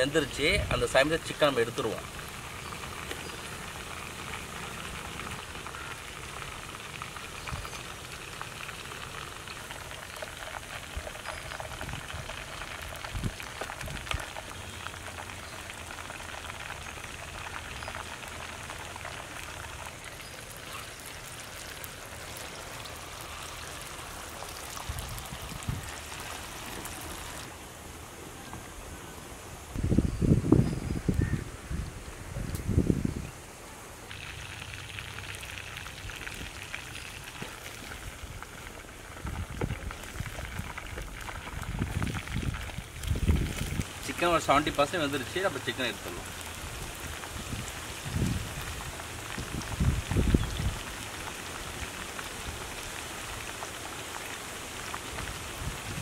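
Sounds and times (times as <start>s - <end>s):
chicken deep-frying in oil: 0.0s - 27.6s, 34.0s - 56.0s.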